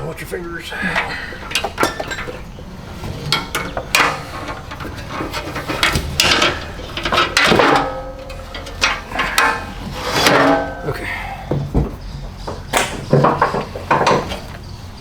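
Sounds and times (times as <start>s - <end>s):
metal step clanking and clicking: 0.0s - 15.0s.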